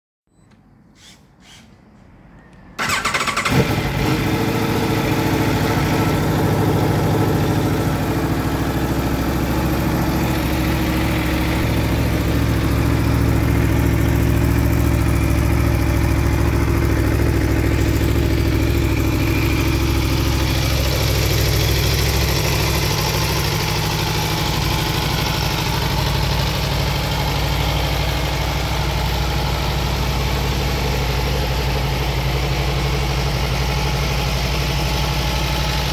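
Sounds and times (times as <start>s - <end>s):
motorcycle engine starting and idling: 0.3s - 35.9s.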